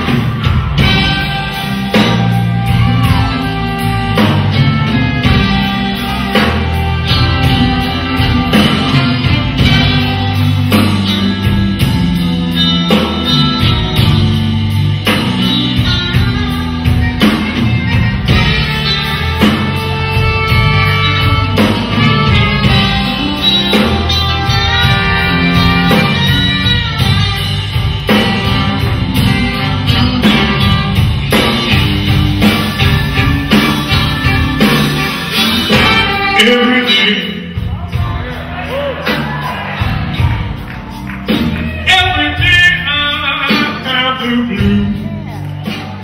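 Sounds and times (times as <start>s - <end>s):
drum kit steady beat: 0.0s - 46.0s
live band playing: 0.0s - 46.0s.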